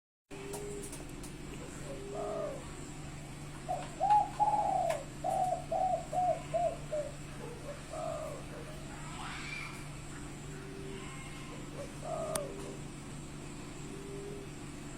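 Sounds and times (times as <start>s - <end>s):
dove cooing: 0.3s - 14.9s.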